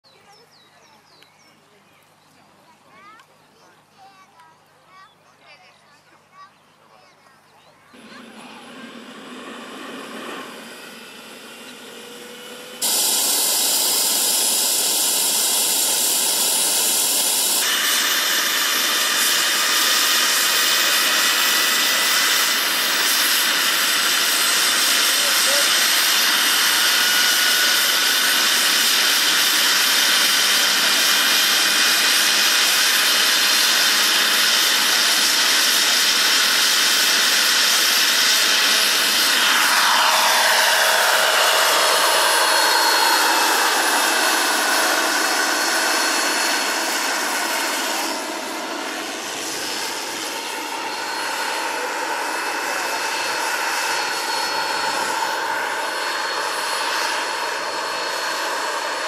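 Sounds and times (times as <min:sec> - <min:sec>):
model helicopter turbine whine: 0:00.1 - 0:59.0
helicopter rotor noise: 0:02.4 - 0:59.0.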